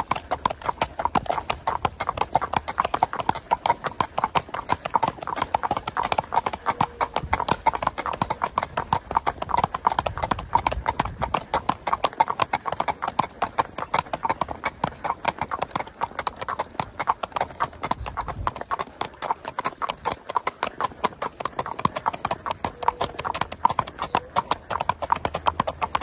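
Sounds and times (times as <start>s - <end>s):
horse hooves on asphalt: 0.0s - 26.0s.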